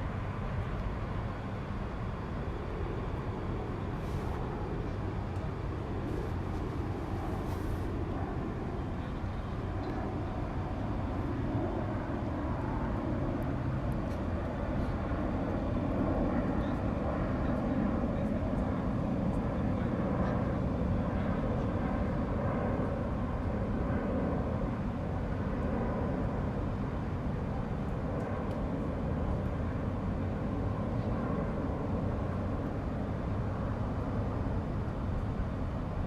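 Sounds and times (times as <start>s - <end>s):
distant airplane rumble: 0.0s - 36.0s
night ambience: 0.0s - 36.0s.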